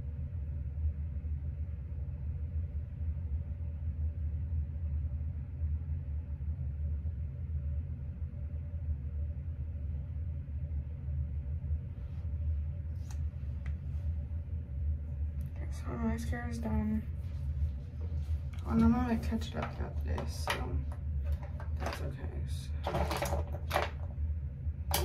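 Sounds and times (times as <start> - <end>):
faint hum: 0.0 - 25.0
low machinery rumble: 0.0 - 25.0.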